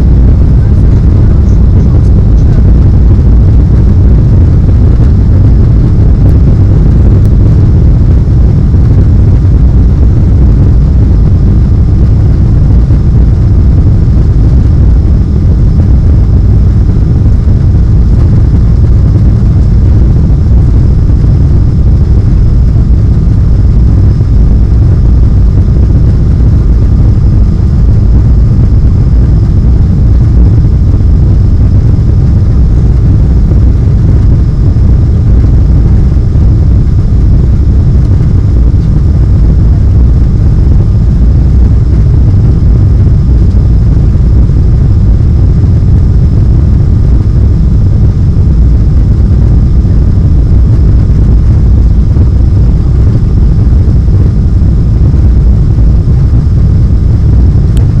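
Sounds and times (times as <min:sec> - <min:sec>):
airplane cabin engine roar: 0:00.0 - 0:58.0
faint high whine: 0:00.0 - 0:58.0.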